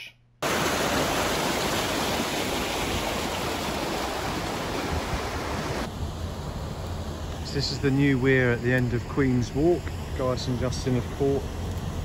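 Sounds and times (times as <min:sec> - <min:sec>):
water rushing down a weir: 0:00.4 - 0:12.0.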